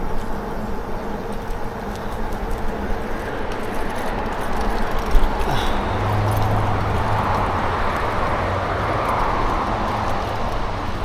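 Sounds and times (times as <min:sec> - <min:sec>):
tyre noise: 0:00.0 - 0:11.0.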